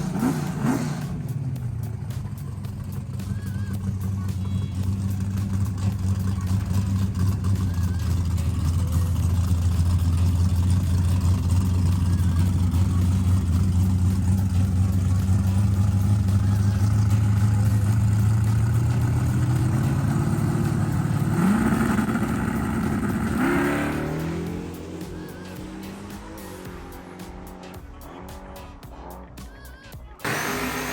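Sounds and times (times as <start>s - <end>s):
drag racing car engine revving: 0.0s - 29.4s, 30.2s - 30.9s.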